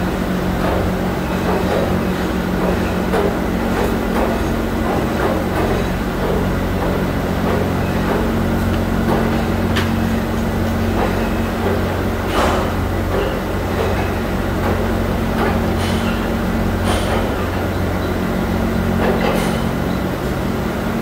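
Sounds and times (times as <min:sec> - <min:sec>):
factory machinery humming: 0:00.0 - 0:21.0.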